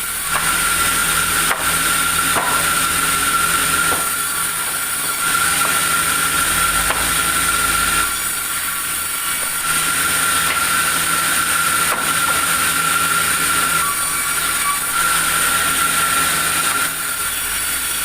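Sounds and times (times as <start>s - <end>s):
sawmill saw whining: 0.0s - 18.0s.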